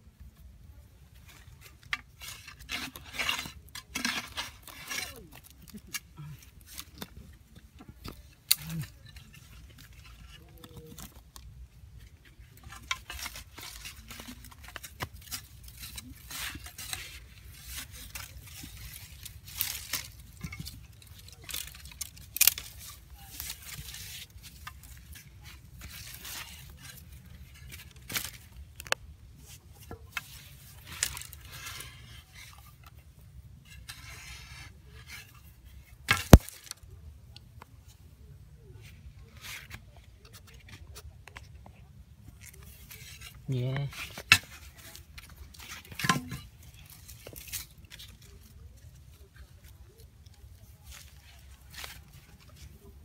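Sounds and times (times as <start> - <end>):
hand tool digging dry soil: 0.3 - 53.0.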